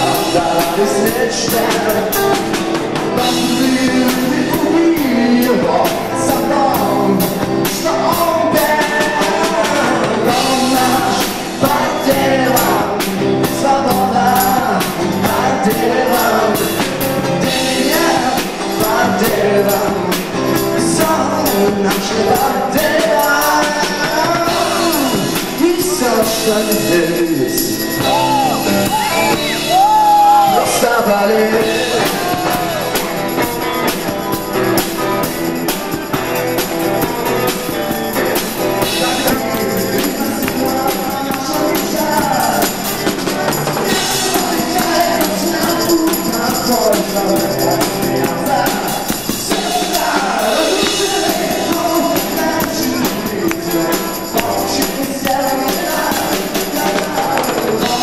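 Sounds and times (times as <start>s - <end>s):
live band playing: 0.0s - 58.0s
person singing: 0.0s - 58.0s.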